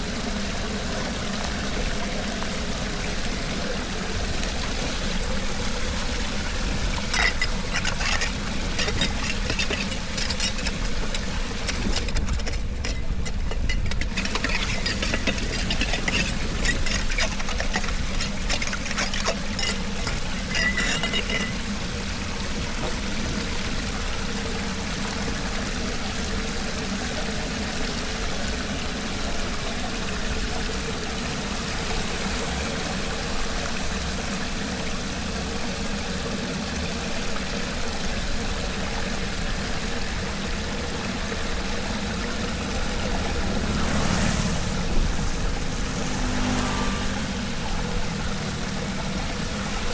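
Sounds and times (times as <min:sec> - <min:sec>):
water pouring into storm drain: 0:00.0 - 0:49.9.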